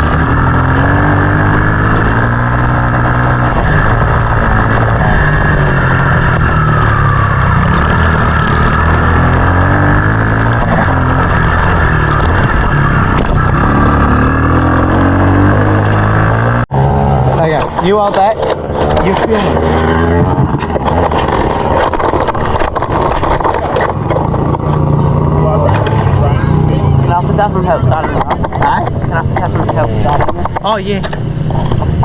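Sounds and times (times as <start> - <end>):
small dirt-bike engine running hard: 0.0 - 32.0.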